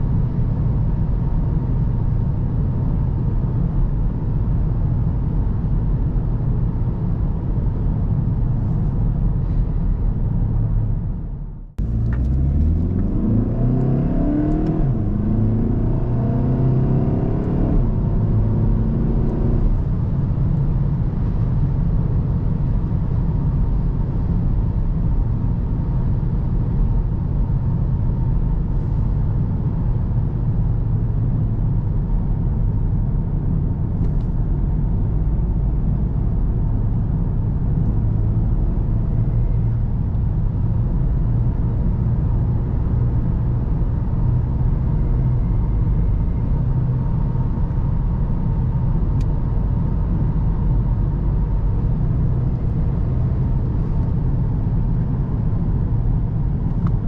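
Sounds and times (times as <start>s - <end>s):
diesel car engine accelerating: 0.0s - 57.0s.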